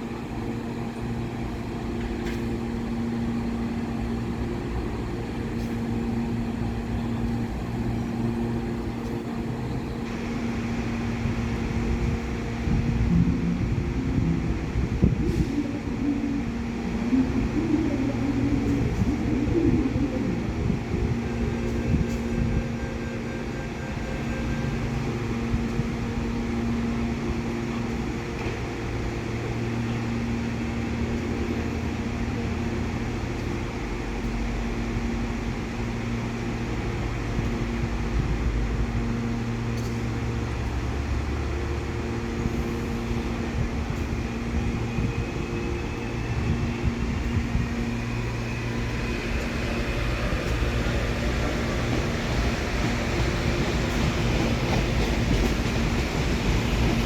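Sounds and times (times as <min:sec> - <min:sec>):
electric train hum and rumble: 0:00.0 - 0:57.0
train tones: 0:00.0 - 0:57.0.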